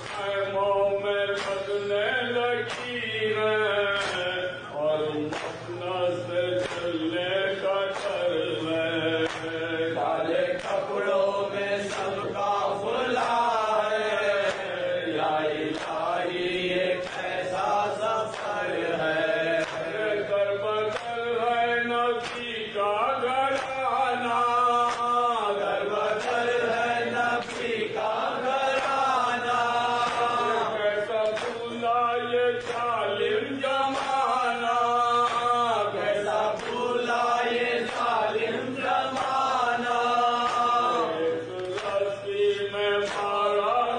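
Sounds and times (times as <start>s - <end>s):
man chanting into a microphone: 0.0s - 43.9s.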